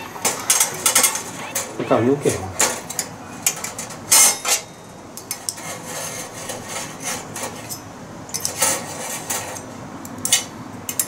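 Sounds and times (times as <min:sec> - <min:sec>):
metal tongs clanking on griddle plates: 0:00.0 - 0:11.0.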